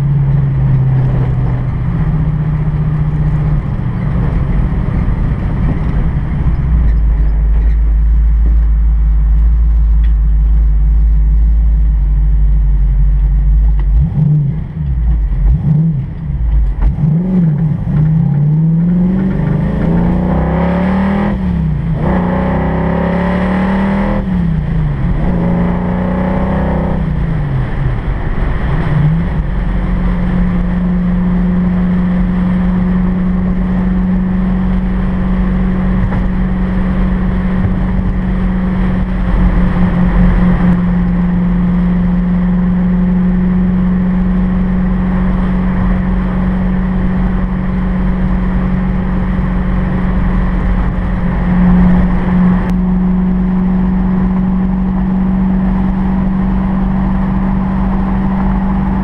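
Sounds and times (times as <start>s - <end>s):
car engine at speed: 0.0s - 59.0s
road and wind noise: 0.0s - 59.0s.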